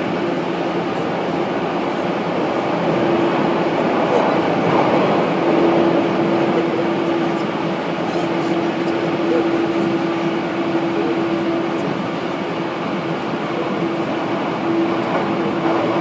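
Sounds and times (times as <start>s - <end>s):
train wheels rushing on rail: 0.0s - 16.0s.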